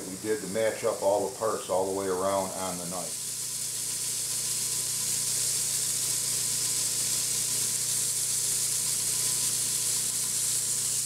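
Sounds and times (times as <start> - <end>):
belt sander running: 0.0 - 11.0.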